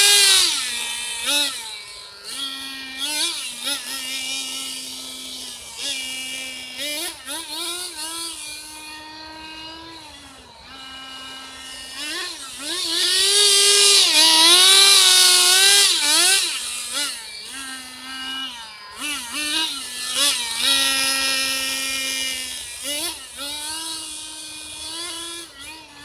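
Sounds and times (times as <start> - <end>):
small nitro engine revving: 0.0 - 26.0.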